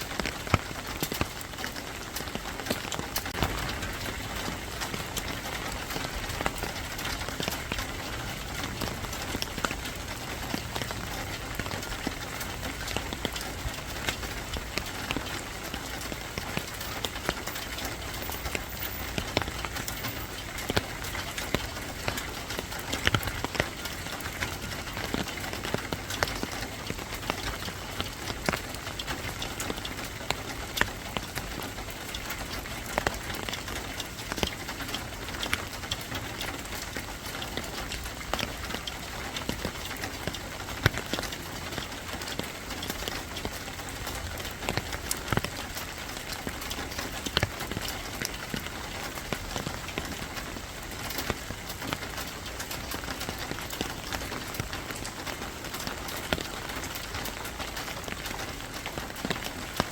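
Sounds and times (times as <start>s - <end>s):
rain on hard surfaces: 0.0s - 59.9s
sharp drips and taps: 0.0s - 59.9s.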